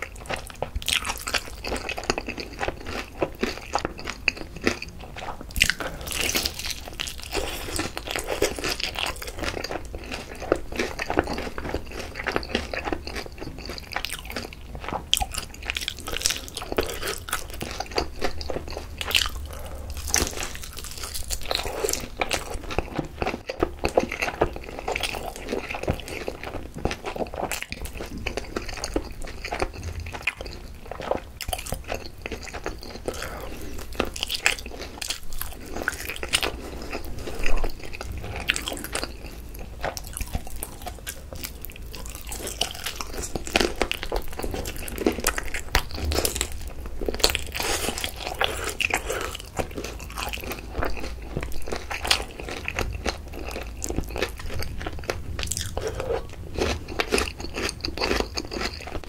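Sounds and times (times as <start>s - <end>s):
crunching fried chicken: 0.0s - 59.0s.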